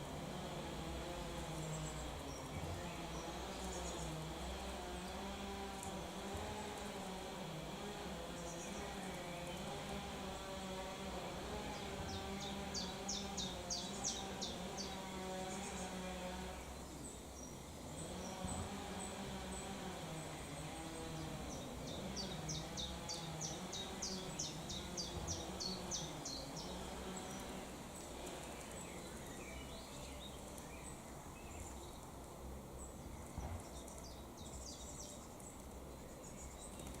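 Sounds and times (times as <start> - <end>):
low background noise: 0.0 - 37.0
small birds chirping: 0.0 - 37.0.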